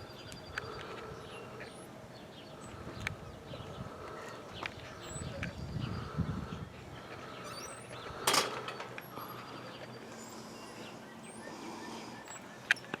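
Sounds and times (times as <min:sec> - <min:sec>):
small birds chirping faintly: 0:00.0 - 0:13.0.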